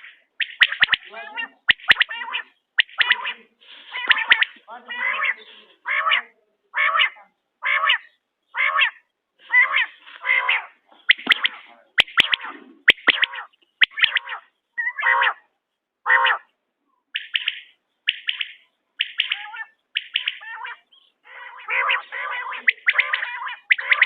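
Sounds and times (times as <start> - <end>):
quail calling: 0.0 - 16.5, 17.1 - 24.0.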